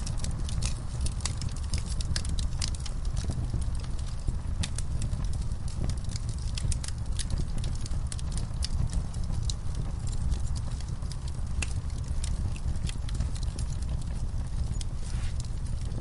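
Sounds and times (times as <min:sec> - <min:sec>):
fireplace fire crackling: 0:00.0 - 0:16.0
low rumble of burning: 0:00.0 - 0:16.0.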